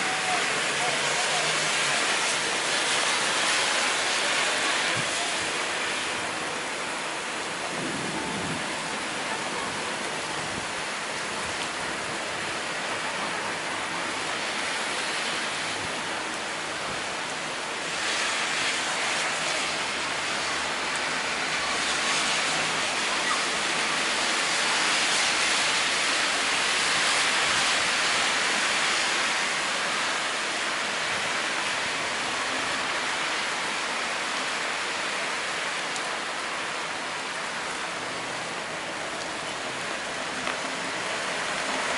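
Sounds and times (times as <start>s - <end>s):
heavy rain on pavement: 0.0s - 41.9s.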